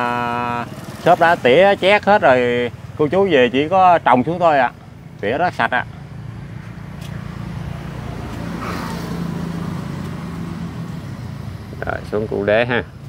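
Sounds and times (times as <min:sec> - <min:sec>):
passing vehicle engine hum: 0:00.0 - 0:13.0.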